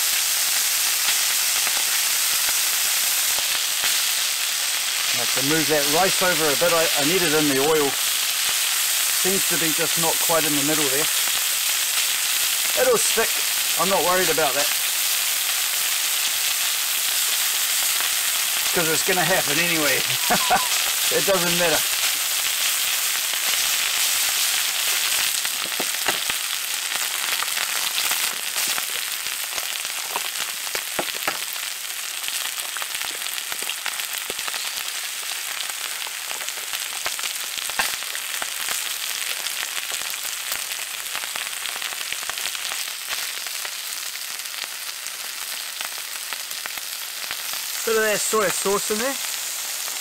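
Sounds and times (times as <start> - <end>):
food sizzling on a griddle: 0.0 - 50.0.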